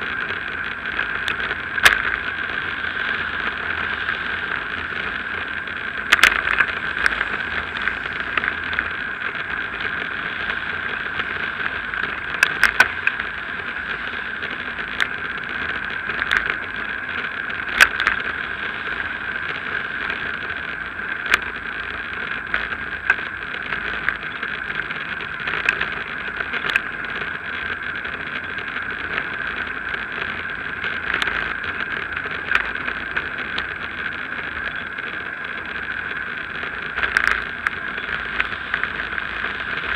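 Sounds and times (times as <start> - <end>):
bike rattling over bumps: 0.0 - 39.9
wind and tyres rushing: 0.0 - 39.9.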